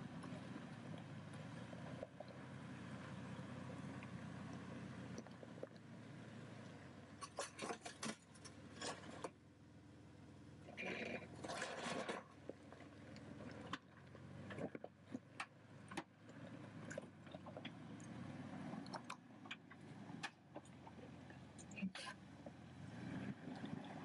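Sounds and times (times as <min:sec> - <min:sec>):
faint low rumble: 0:00.0 - 0:07.5, 0:08.4 - 0:24.0.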